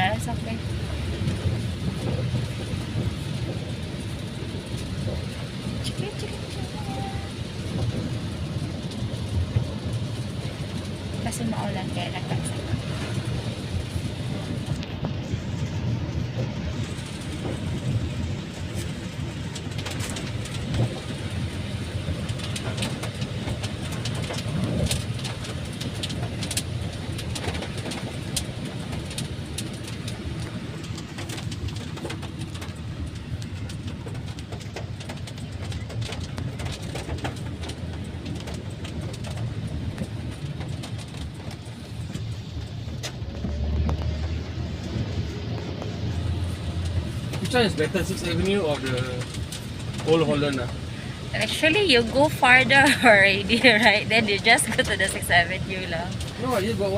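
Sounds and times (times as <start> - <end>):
raindrops tapping on car: 0.0 - 56.9
road and engine rumble: 0.0 - 56.9.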